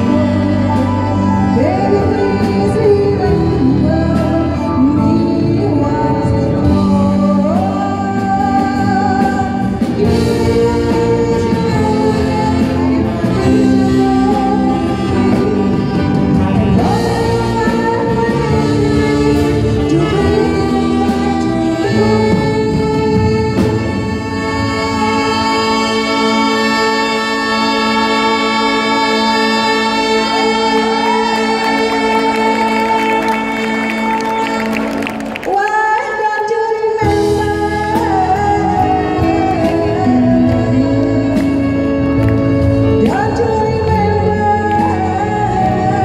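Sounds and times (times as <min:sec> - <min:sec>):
big band playing: 0:00.0 - 0:46.0
person singing: 0:00.0 - 0:46.0.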